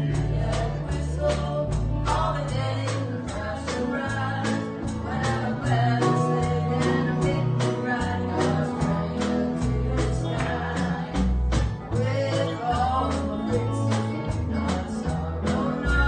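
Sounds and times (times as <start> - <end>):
live country gospel band: 0.0 - 16.0
voices singing: 0.0 - 16.0.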